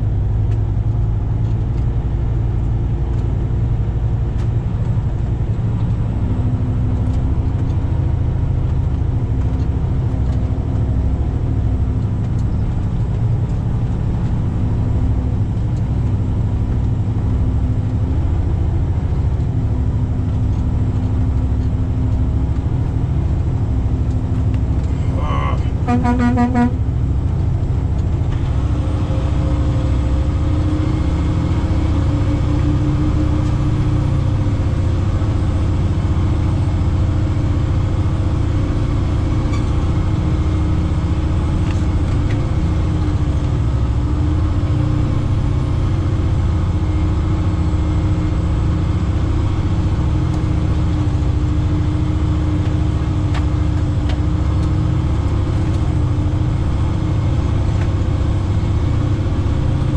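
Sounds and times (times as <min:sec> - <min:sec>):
diesel truck engine rumble: 0:00.0 - 0:59.9.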